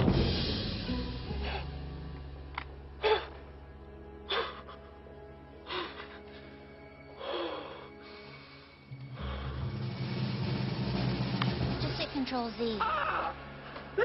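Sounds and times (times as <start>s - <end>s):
background score music: 0.0s - 14.0s.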